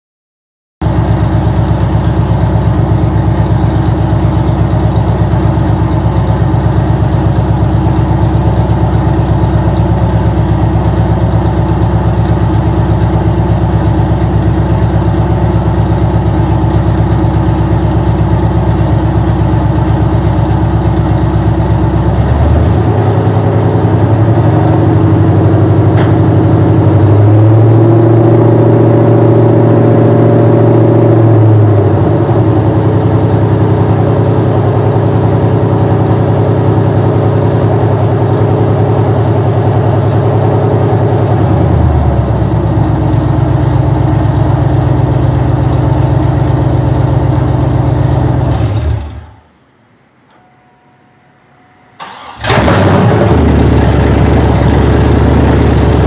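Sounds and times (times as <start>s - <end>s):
loud car engine idling and revving: 0.8s - 49.6s, 52.0s - 56.0s.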